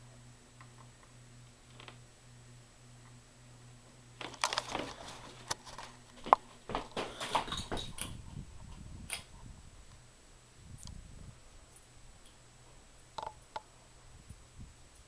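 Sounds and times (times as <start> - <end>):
ceiling fan motor hum: 0.0 - 15.0.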